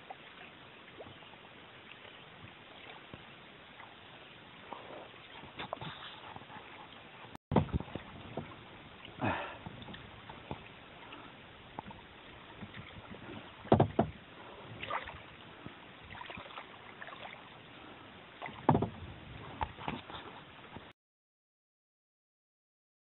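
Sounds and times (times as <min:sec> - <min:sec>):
paddle splashing in water: 0:00.0 - 0:20.9.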